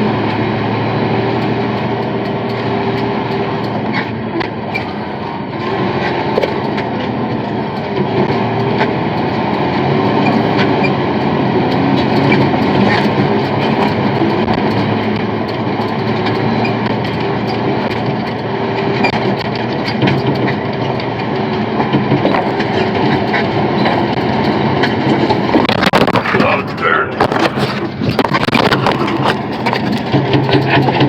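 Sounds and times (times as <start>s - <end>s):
diesel truck engine drone: 0.0s - 31.0s
rattling and clicking: 1.2s - 31.0s.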